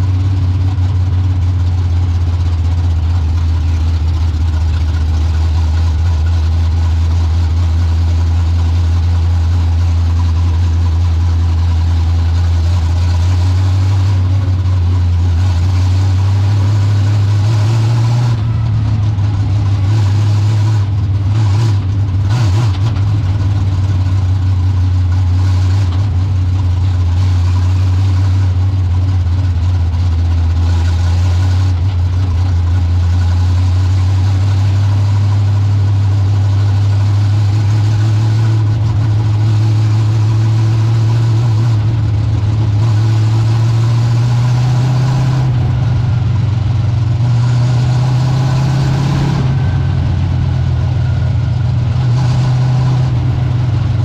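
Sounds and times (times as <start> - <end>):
car engine running at low revs: 0.0 - 54.0.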